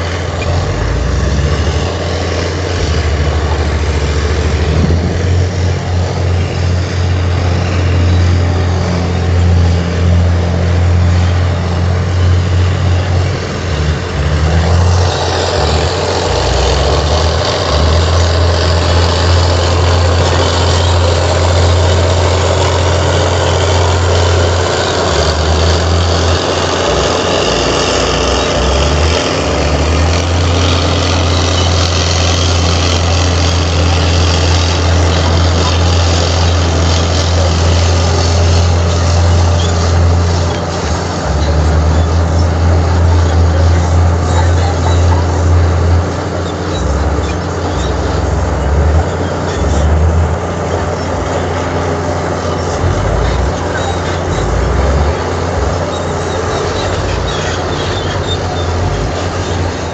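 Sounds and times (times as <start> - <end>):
heavy diesel machine engine: 0.0 - 59.9.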